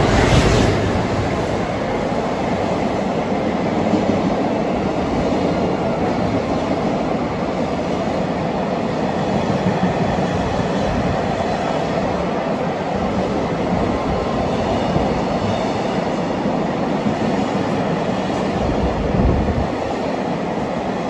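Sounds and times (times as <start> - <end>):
freight train wheels on rails: 0.0 - 21.0.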